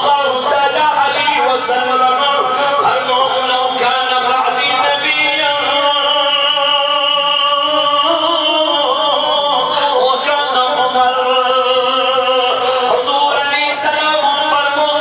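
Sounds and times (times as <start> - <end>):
man singing slow melody: 0.0 - 15.0.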